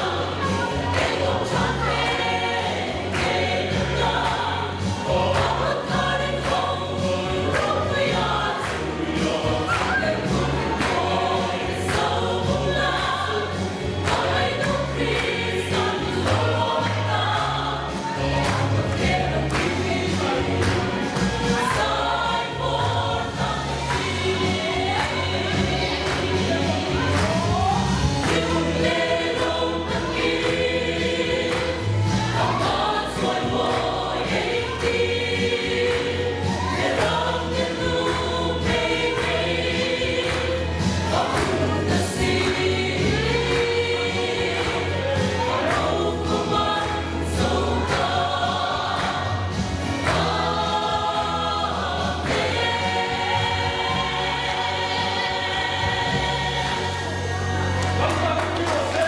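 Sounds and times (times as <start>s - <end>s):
mixed choir singing gospel: 0.0s - 59.0s.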